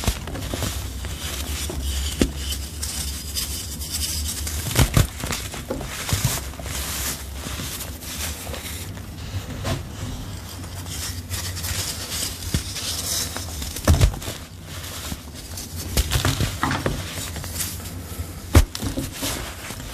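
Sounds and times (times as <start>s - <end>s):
hands crushing dry powder blocks: 0.0s - 19.9s
powder sifting down: 0.0s - 19.9s.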